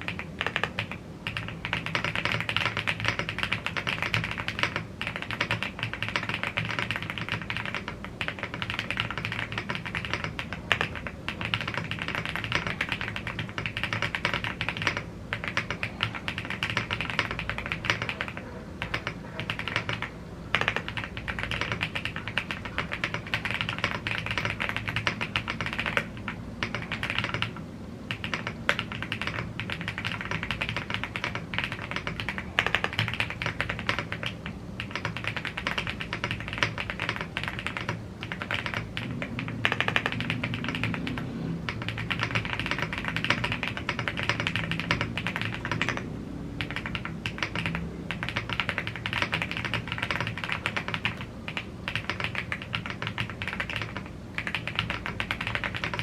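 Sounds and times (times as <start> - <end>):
mechanical keyboard typing clacks: 0.0 - 56.0.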